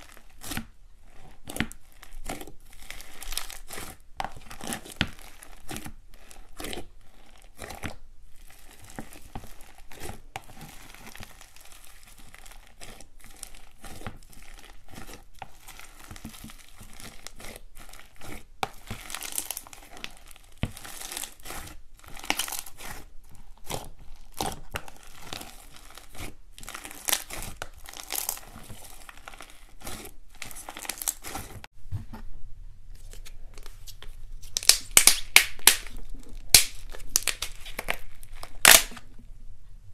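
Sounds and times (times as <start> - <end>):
slime crackling and popping: 0.0 - 31.7, 34.4 - 39.1.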